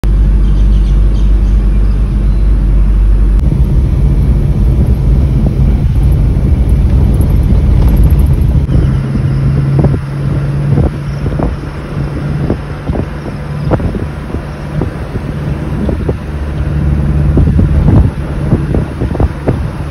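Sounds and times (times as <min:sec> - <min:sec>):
car engine and road rumble: 0:00.0 - 0:19.9.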